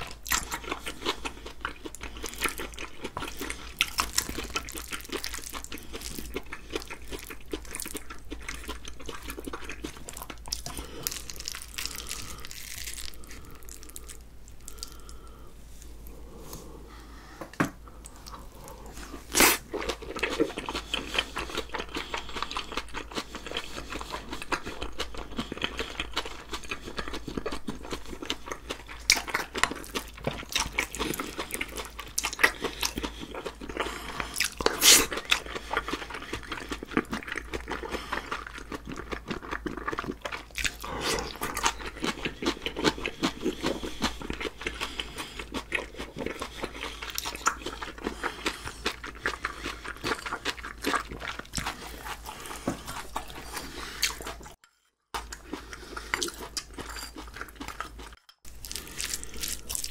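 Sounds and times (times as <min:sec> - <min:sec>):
man chewing with wet clicks: 0:00.0 - 0:15.3, 0:18.0 - 0:54.6, 0:55.2 - 0:59.9.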